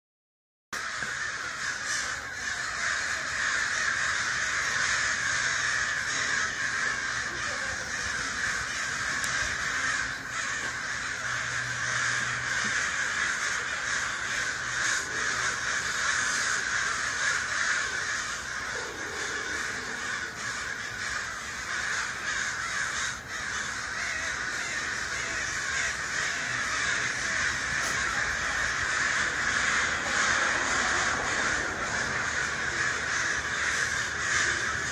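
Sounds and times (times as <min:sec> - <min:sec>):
flock of birds calling: 0:00.8 - 0:34.9.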